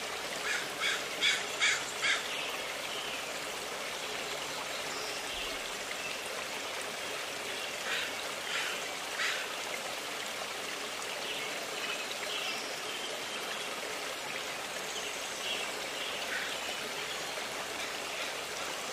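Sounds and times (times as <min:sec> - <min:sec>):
stream flowing: 0:00.0 - 0:18.9.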